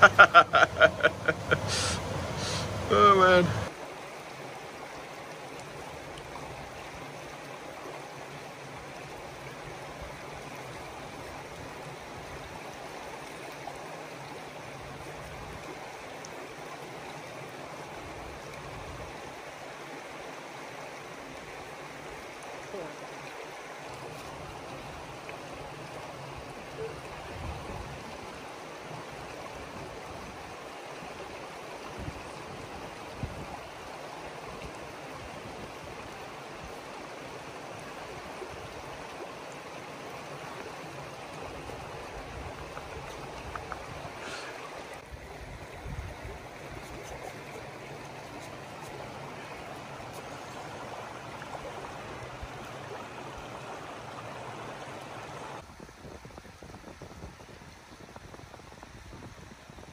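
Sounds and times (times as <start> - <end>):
creek water flowing over rock: 0.0 - 59.9.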